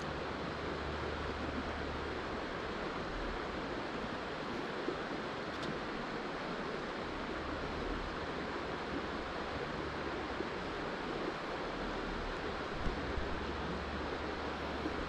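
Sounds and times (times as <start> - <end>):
river water rushing: 0.0 - 15.0
wind rumble on microphone: 0.0 - 15.0.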